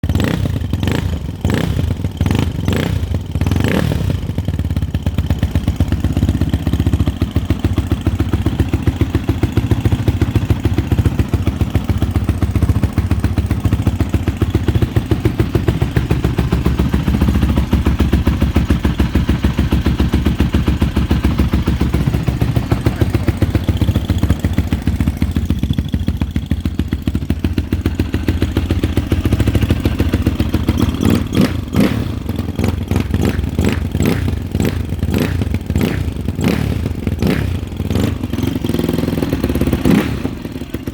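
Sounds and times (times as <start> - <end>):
quad engine idling: 0.0 - 40.9.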